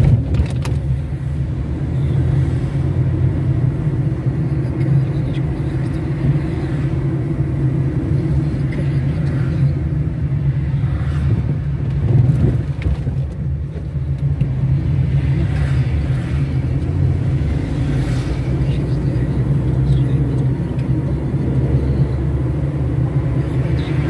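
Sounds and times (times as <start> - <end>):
car driving on asphalt: 0.0 - 24.0.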